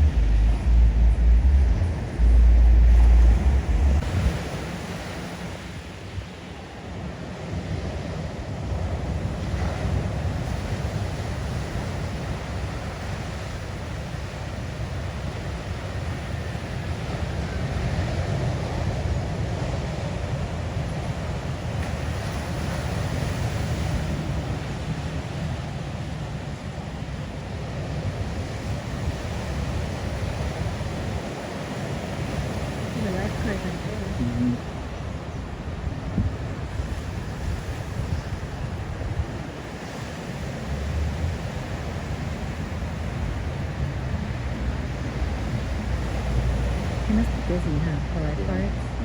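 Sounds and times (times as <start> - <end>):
wind buffeting microphone: 0.0 - 6.0, 7.6 - 49.0
ocean surf breaking: 0.0 - 49.0.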